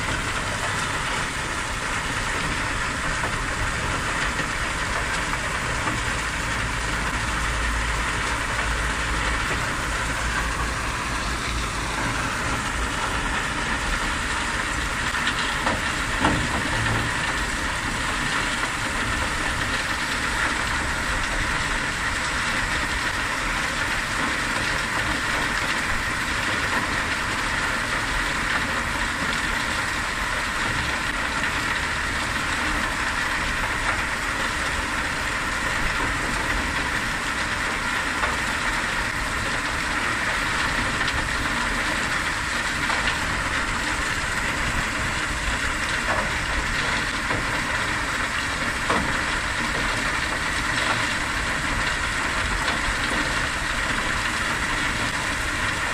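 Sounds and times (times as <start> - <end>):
sand washing machine running: 0.0 - 55.9.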